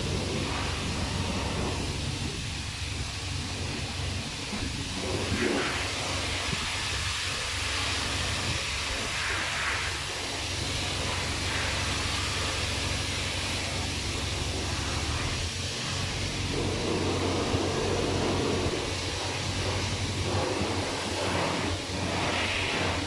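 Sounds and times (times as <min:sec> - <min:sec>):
hose water spray hissing on car: 0:00.0 - 0:23.0
steady low hum: 0:00.0 - 0:23.0.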